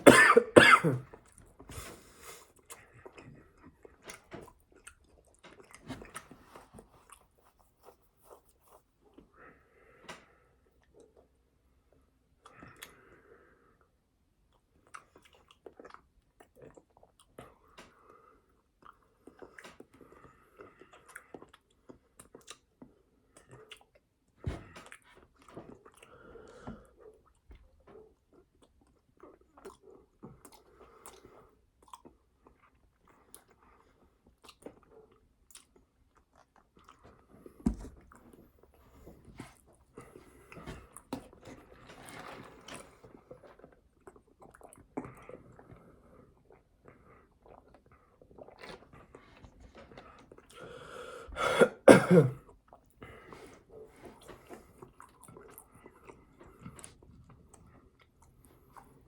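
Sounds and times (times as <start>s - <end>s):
chewing and biting food: 1.2s - 9.3s, 14.5s - 38.6s, 39.4s - 50.7s, 52.6s - 59.0s.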